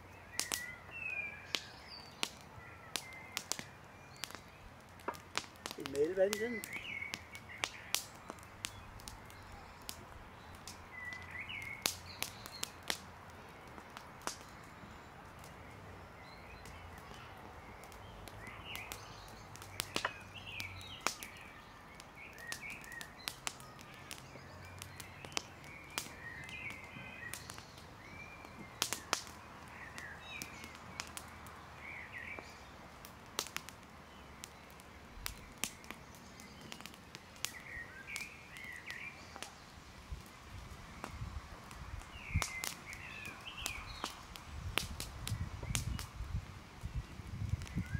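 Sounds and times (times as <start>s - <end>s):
campfire crackling: 0.0s - 47.9s
small birds chirping: 0.0s - 47.9s.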